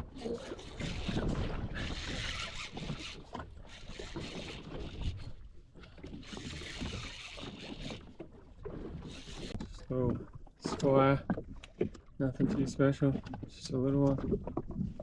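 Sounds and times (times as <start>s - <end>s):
water slapping against hull: 0.0s - 15.0s.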